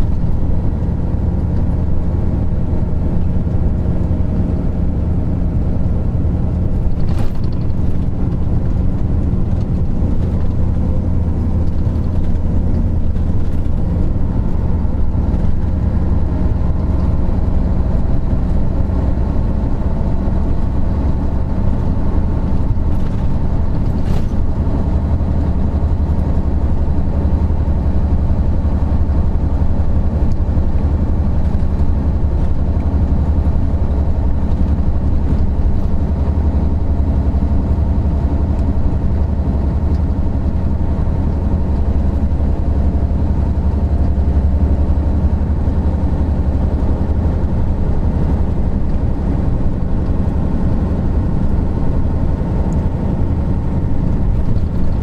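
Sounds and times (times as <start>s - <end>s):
diesel bus engine droning: 0.0s - 55.0s.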